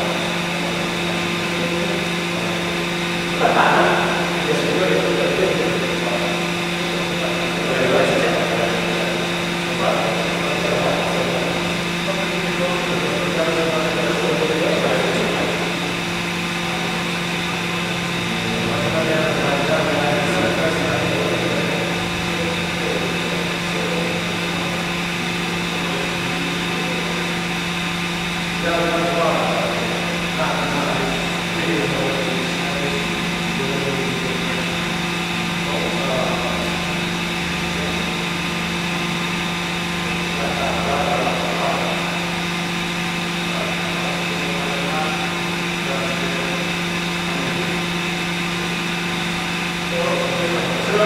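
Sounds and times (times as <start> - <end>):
faint voices: 0.0 - 51.0
machinery hum: 0.0 - 51.0.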